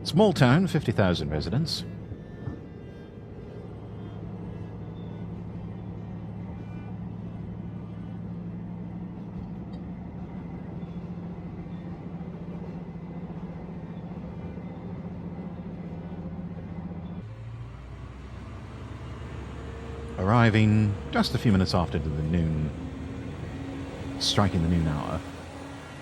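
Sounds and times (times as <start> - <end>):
diesel railcar engine droning: 0.0 - 26.0.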